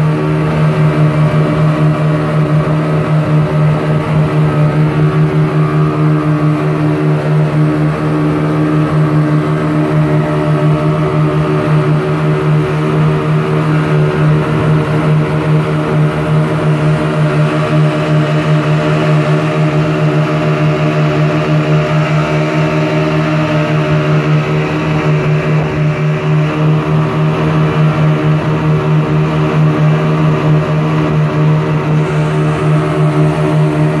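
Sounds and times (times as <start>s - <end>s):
outboard motors running: 0.0s - 34.0s.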